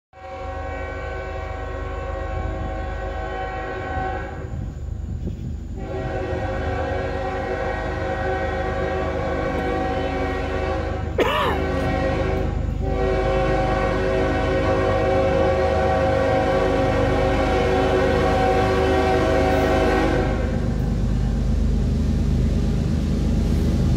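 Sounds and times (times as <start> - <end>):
low rumble of train: 0.1 - 23.9
locomotive air horn blasts: 0.2 - 4.6, 5.8 - 20.7.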